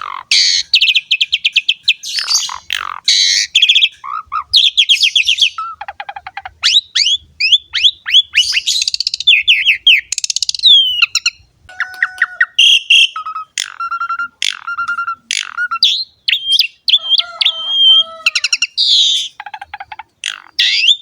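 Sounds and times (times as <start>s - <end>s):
bird singing varied song: 0.0s - 21.0s.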